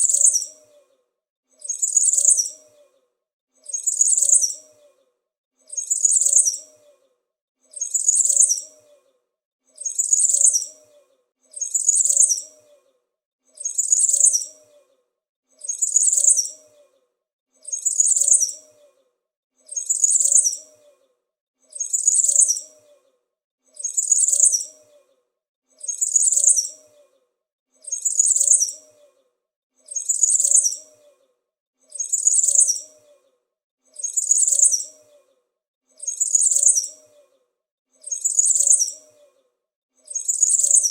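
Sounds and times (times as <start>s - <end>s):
small bird chirping: 0.0s - 1.0s, 1.6s - 3.0s, 3.6s - 12.9s, 13.5s - 15.0s, 15.6s - 17.0s, 17.6s - 21.1s, 21.7s - 25.1s, 25.8s - 29.2s, 29.8s - 37.4s, 38.0s - 39.4s, 40.0s - 40.9s.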